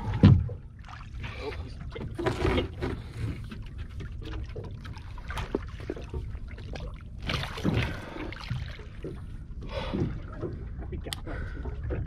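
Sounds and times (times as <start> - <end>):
water sloshing against boat: 0.0 - 12.0.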